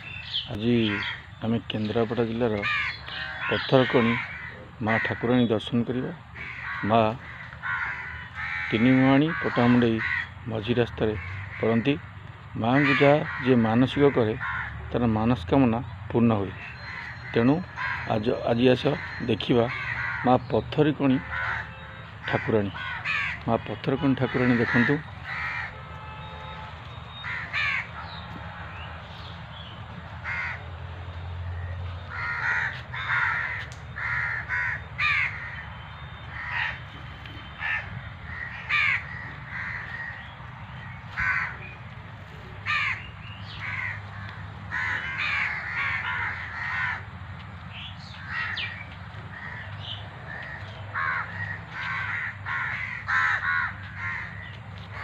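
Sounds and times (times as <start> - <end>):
crows cawing: 0.0 - 15.4, 16.5 - 55.0.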